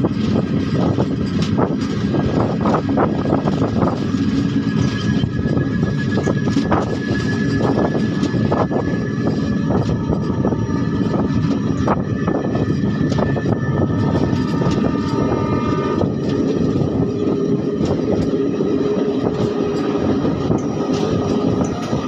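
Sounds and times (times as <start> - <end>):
high whine: 0.0 - 22.0
train wheels rumbling on rails: 0.0 - 22.0
wheels clacking over rail joints: 0.0 - 22.0.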